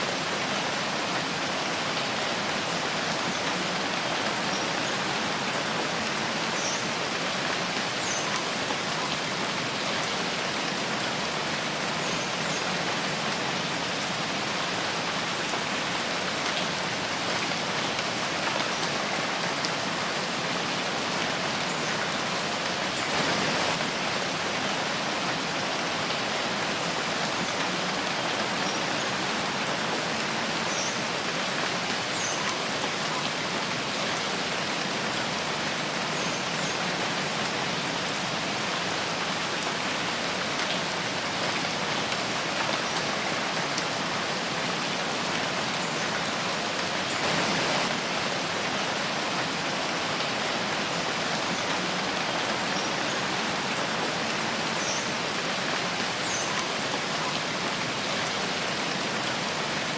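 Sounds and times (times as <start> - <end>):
rain on leaves: 0.0 - 59.9.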